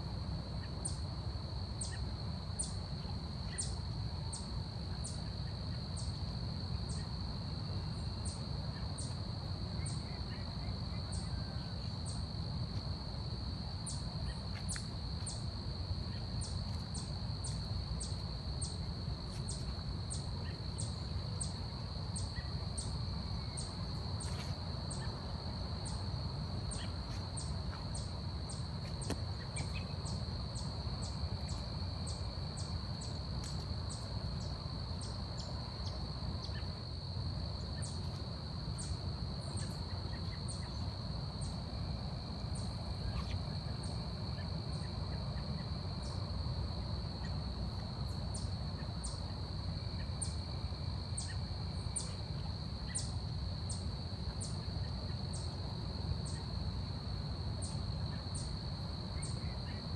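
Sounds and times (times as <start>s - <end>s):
insects droning: 0.0s - 59.9s
sharp insect chirp: 0.6s - 59.9s.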